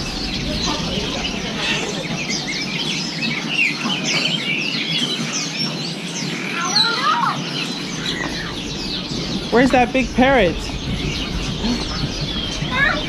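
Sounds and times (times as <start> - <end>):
low background hubbub: 0.0 - 13.0
songbirds chirping and twittering: 0.0 - 13.0.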